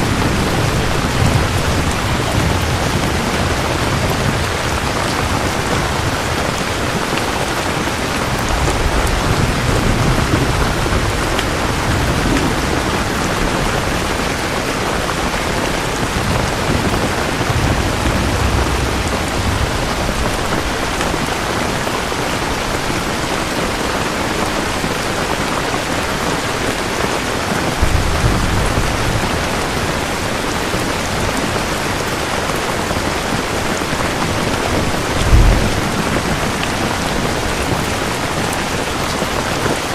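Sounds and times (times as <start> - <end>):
distant thunder rumbling: 0.0 - 24.9, 27.0 - 39.3
heavy rain falling: 0.0 - 39.9.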